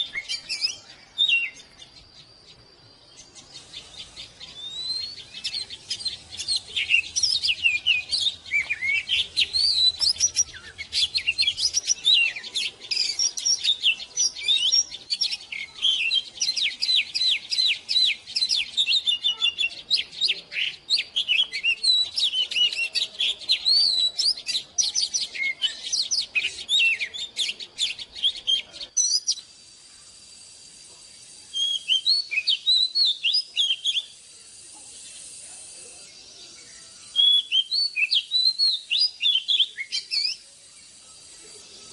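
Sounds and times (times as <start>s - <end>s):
bird singing whistled phrases: 0.0s - 29.6s, 31.4s - 34.2s, 36.1s - 41.9s.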